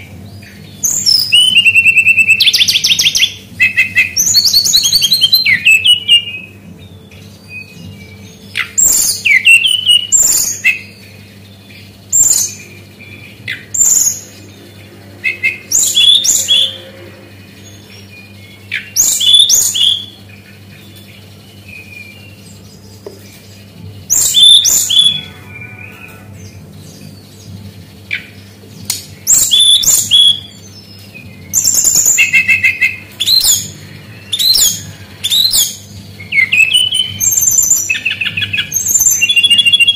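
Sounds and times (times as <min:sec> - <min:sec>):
bird singing high phrases: 0:00.0 - 0:39.9
steady low hum: 0:00.0 - 0:39.9.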